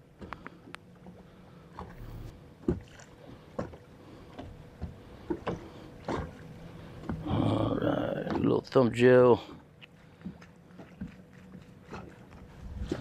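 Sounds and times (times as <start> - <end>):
faint wind: 0.0 - 13.0
lake water: 0.0 - 13.0.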